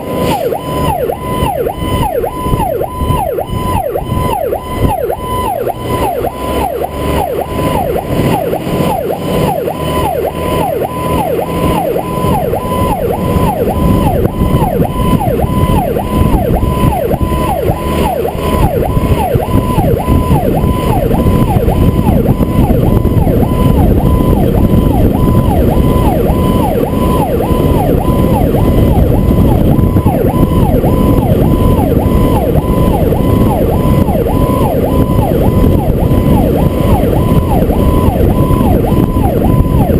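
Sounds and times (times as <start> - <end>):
fire truck siren wailing: 0.0 - 39.9
truck engine and road noise: 0.0 - 39.9.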